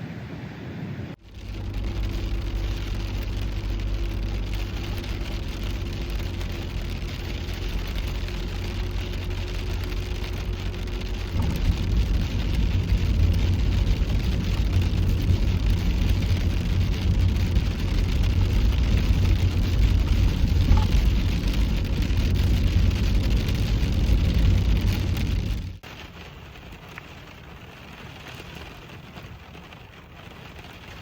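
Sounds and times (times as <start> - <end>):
heavy rain: 0.8 - 31.0.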